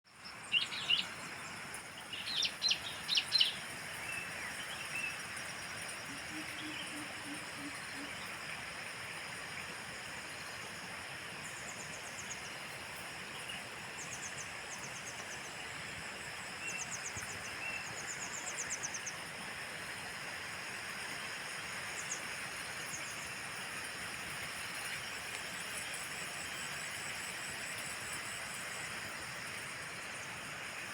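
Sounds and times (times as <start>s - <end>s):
flowing water: 0.1s - 30.9s.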